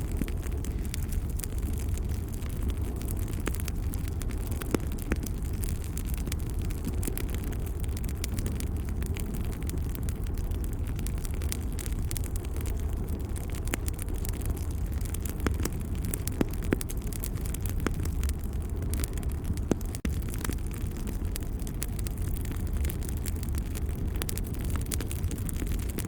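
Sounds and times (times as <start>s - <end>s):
fire crackling and popping: 0.0s - 26.0s
wood fire rumbling: 0.0s - 26.0s.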